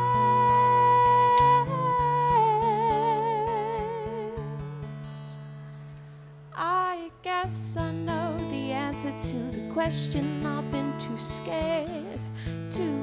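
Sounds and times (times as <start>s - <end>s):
woman singing long notes: 0.0s - 4.6s, 6.6s - 13.0s
acoustic guitar chords: 0.0s - 13.0s.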